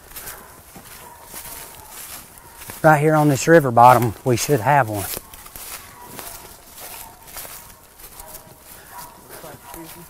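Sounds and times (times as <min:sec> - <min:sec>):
distant dog barking: 0:00.0 - 0:10.0
footsteps walking through grass: 0:00.0 - 0:10.0.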